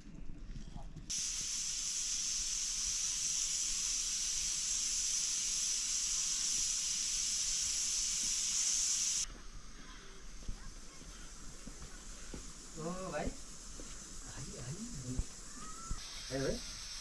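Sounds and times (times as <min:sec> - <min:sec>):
high-pitched hiss: 0:01.1 - 0:17.0.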